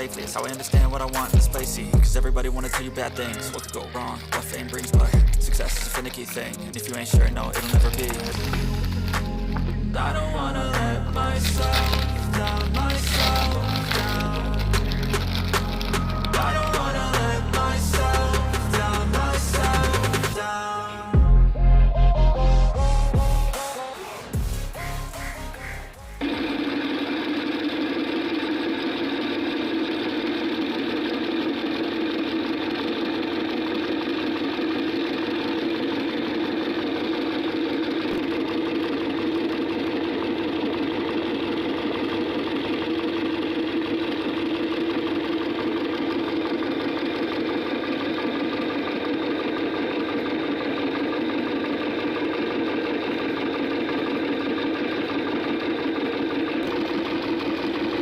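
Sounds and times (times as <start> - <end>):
meat grinder motor humming: 0.0 - 20.4, 26.2 - 58.0.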